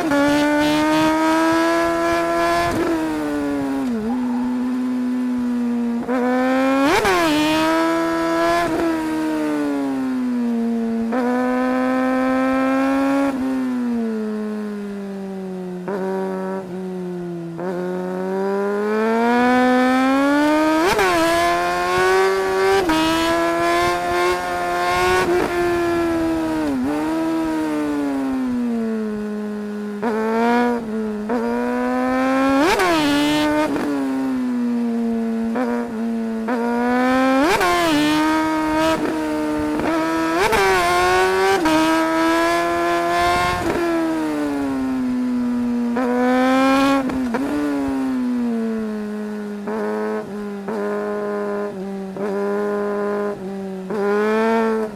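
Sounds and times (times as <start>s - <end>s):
motorcycle engine revving through gears: 0.0s - 54.9s.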